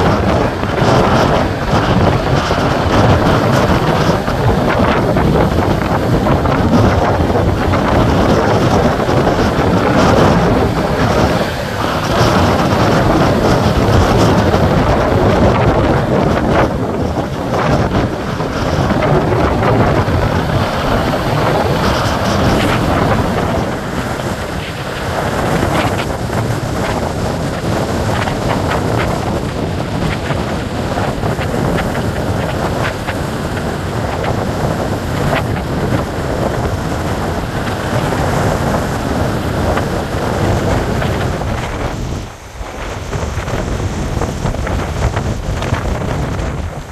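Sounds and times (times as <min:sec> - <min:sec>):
strong wind rushing: 0:00.0 - 0:46.9
surf breaking on beach: 0:00.0 - 0:46.9
wind buffeting microphone: 0:00.0 - 0:46.9.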